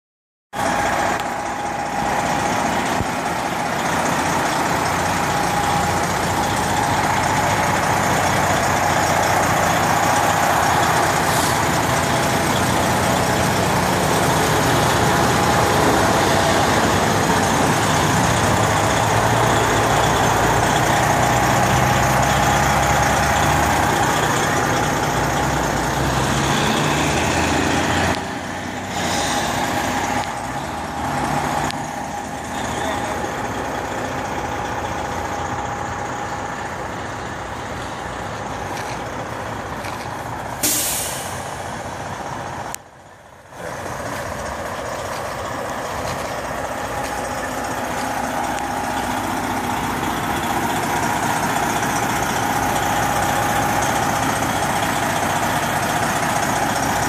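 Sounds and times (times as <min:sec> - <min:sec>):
truck engine idling: 0:00.5 - 0:57.0.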